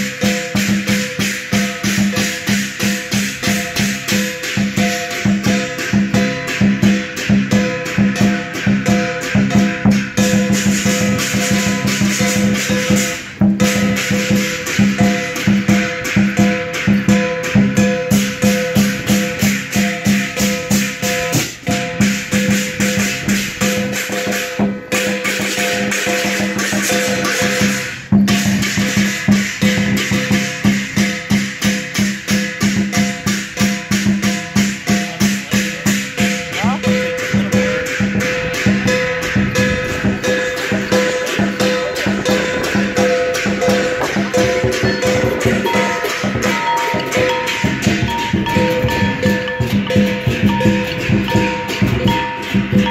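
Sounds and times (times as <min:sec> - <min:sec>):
cymbals clashing: 0:00.0 - 0:52.9
drum beating: 0:00.0 - 0:52.9
gong: 0:00.0 - 0:52.9.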